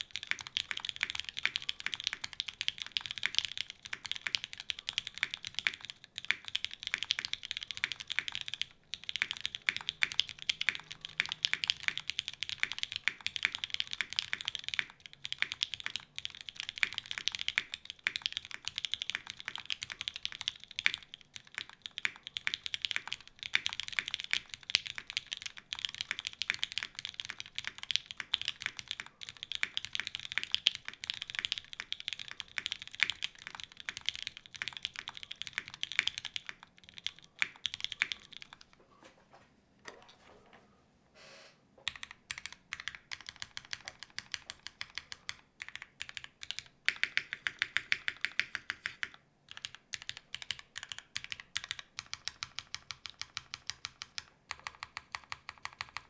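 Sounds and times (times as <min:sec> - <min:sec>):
fast typing on mechanical keyboard: 0:00.0 - 0:38.7, 0:41.8 - 0:56.0.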